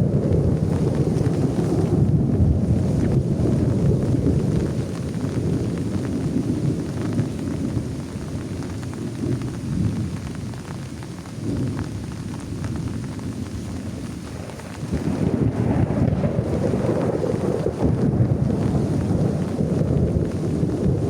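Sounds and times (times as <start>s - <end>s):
heavy rain on plastic tarp: 0.0s - 21.0s
thunder rumbling: 0.0s - 21.0s.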